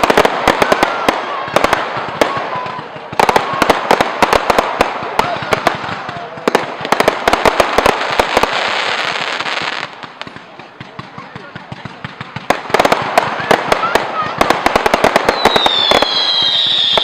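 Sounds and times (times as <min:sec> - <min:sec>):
fireworks crackling bangs: 0:00.0 - 0:17.0.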